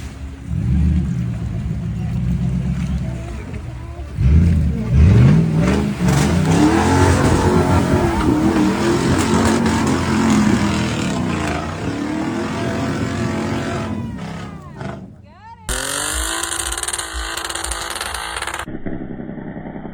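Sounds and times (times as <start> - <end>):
truck engine revving: 0.0 - 18.7.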